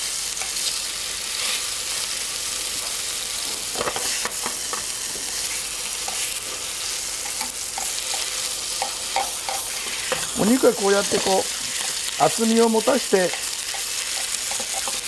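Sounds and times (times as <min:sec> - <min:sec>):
steak sizzling in frying pan: 0:00.0 - 0:15.0.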